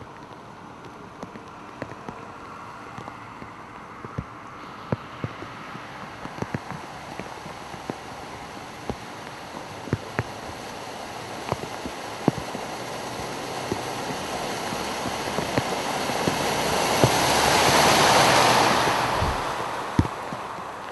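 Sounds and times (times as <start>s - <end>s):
sharp ticks: 0.2s - 10.6s, 11.3s - 19.0s
truck driving through water: 1.5s - 20.9s.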